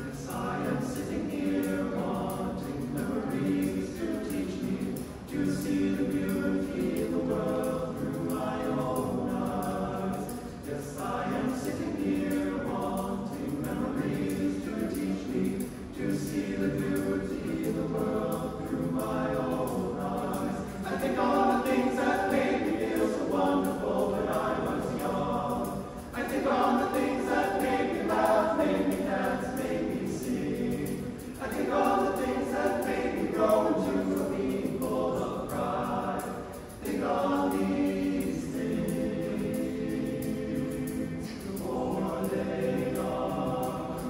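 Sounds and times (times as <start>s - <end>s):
men's choir singing a cappella: 0.0s - 44.0s.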